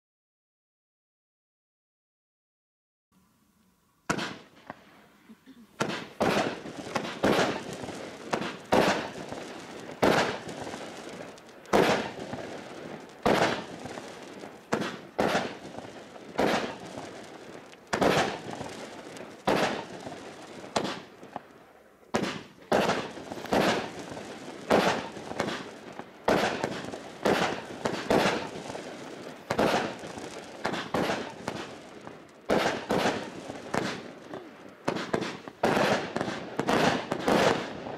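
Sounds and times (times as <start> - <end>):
firework cake bangs: 4.1 - 4.8, 5.8 - 21.4, 22.1 - 37.9.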